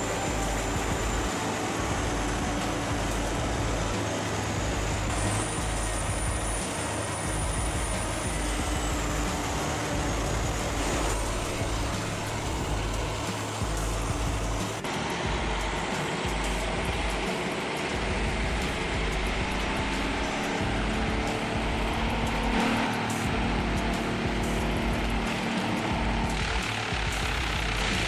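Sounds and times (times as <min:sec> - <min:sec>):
excavator diesel engine and hydraulics: 0:00.0 - 0:28.0
thin high whine: 0:00.0 - 0:28.0.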